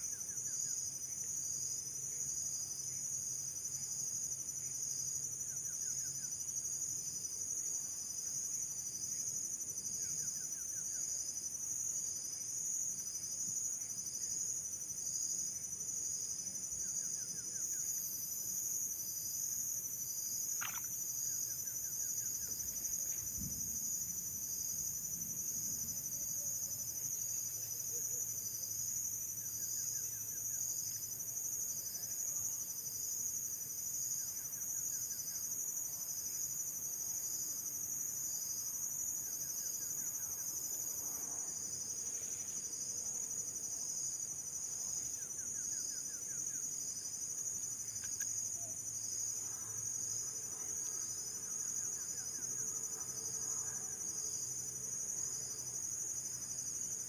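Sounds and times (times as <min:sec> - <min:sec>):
insects chirping chorus: 0:00.0 - 0:57.0.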